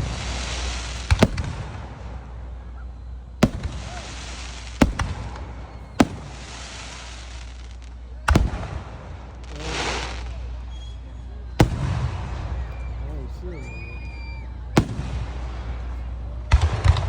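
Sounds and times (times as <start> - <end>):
fireworks bangs: 0.0 - 2.8, 3.4 - 17.0
crackling hiss of fireworks: 0.0 - 17.0.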